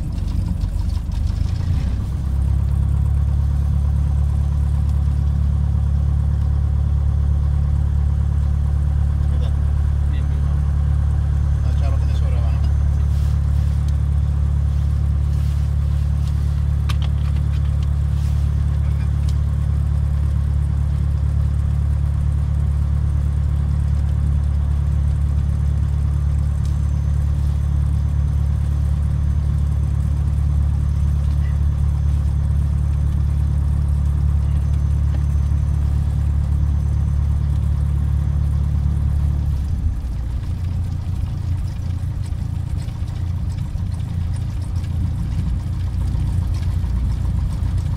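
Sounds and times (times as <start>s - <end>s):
light aircraft engine drone: 0.0s - 47.9s.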